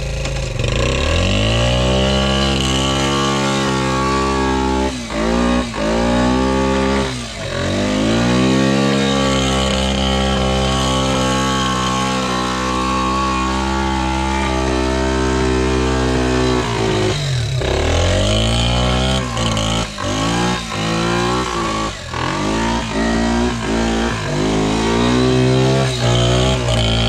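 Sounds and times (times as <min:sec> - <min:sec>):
quad engine revving: 0:00.0 - 0:27.0.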